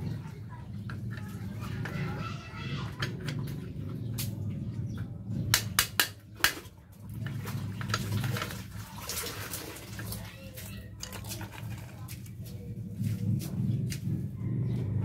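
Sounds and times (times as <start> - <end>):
steady low hum: 0.0 - 8.6, 11.4 - 15.0.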